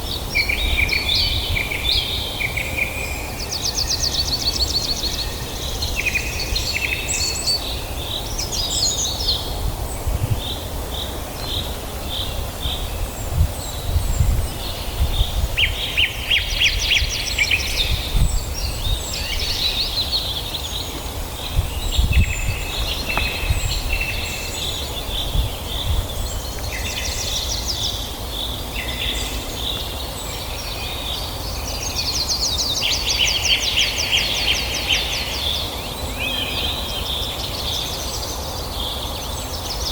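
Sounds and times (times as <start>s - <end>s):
wild birds chirping and trilling: 0.0s - 39.9s.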